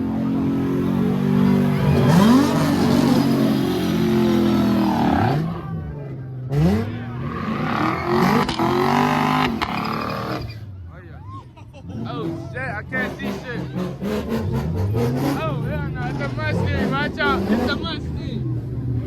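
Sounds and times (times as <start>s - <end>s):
car engine revving: 0.0s - 10.8s, 11.8s - 19.0s.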